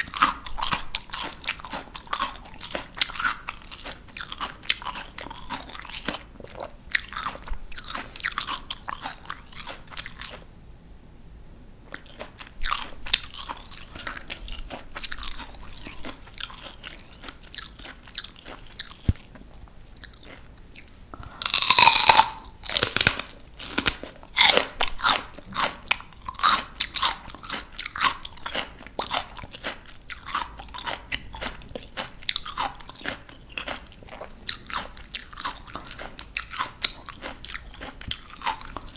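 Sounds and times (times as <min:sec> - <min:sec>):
person crunching raw vegetables: 0:00.0 - 0:10.5, 0:11.9 - 0:38.9.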